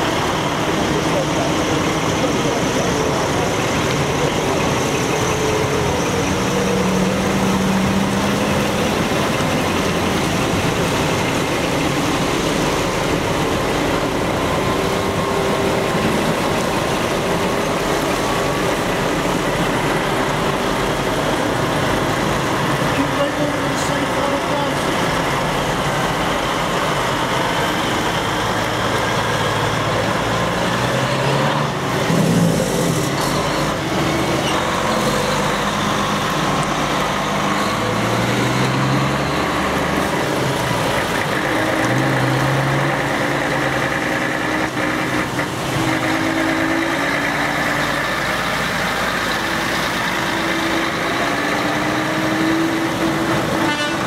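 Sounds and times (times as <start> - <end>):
truck diesel engines revving: 0.0 - 54.0.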